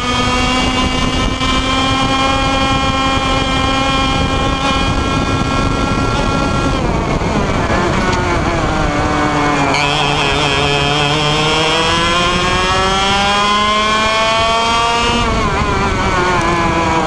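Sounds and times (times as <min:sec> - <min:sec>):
kart engine revving: 0:00.0 - 0:17.0.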